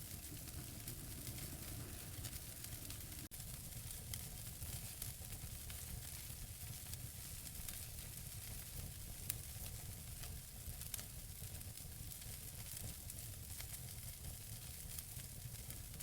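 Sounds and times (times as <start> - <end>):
low fire rumble and hiss: 0.0 - 16.0
wood fire crackling and popping: 0.0 - 16.0.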